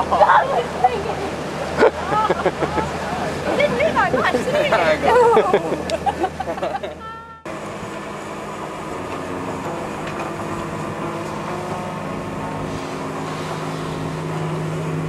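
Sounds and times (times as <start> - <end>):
wind and water rushing: 0.0 - 6.6, 7.6 - 15.0.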